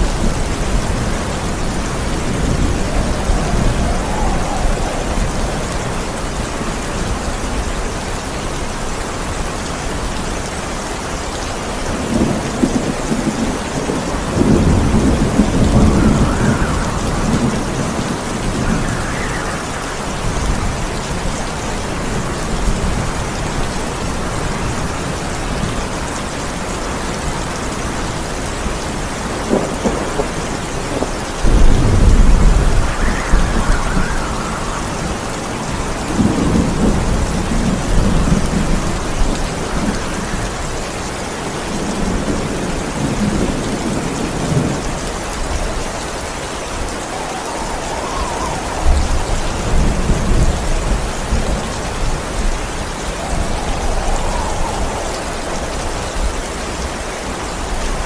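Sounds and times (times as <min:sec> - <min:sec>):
rain falling: 0:00.0 - 0:58.0
thunder rumbling: 0:00.0 - 0:58.0.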